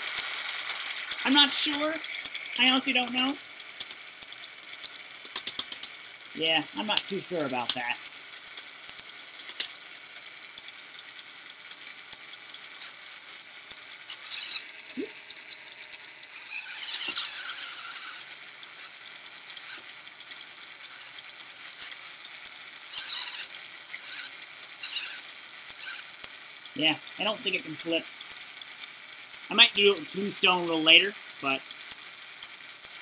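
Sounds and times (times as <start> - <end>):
robot spinner rattling: 0.0 - 33.0.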